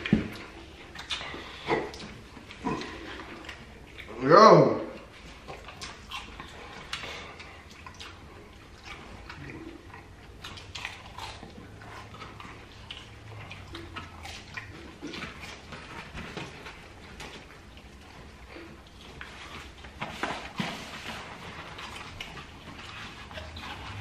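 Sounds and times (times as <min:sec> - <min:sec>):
close chewing with wet smacks: 0:00.0 - 0:04.2, 0:04.8 - 0:24.0.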